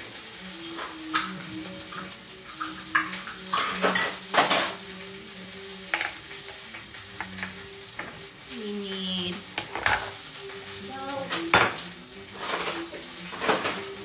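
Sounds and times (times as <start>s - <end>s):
food sizzling in a pan: 0.0s - 14.0s
metal utensils clinking: 0.6s - 14.0s.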